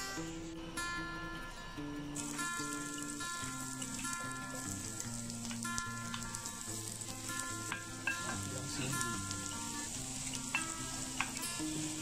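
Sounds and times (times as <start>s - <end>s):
soft background music: 0.0s - 12.0s
oil sizzling in frying pan: 2.2s - 12.0s.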